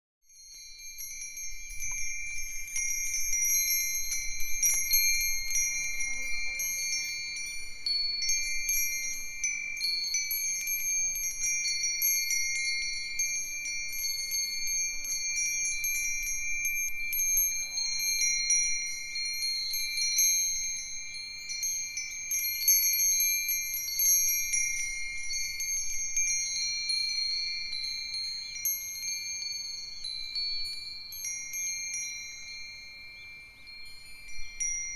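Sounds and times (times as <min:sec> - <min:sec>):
wind chimes ringing: 0:00.3 - 0:34.9.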